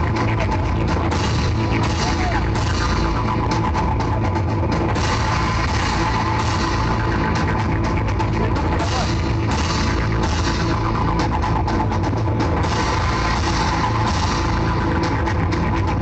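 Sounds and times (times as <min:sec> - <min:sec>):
drum kit playing: 0:00.0 - 0:16.0
rock music: 0:00.0 - 0:16.0.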